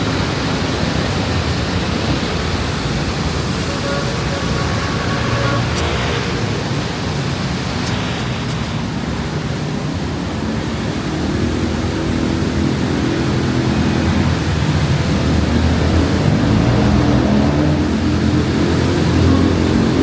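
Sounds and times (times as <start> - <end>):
heavy rain hiss: 0.0 - 20.0
vehicle engine hum: 0.0 - 20.0.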